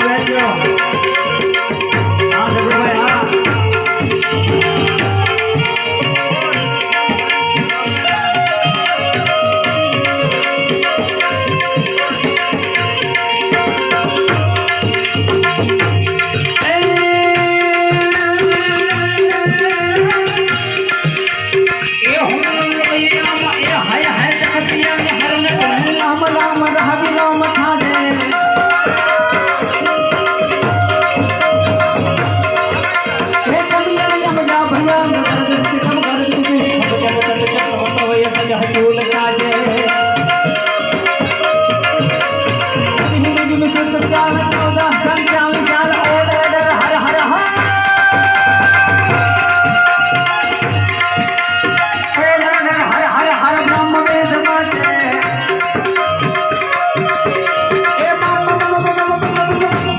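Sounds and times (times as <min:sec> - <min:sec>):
hand drum rhythm: 0:00.0 - 0:59.9.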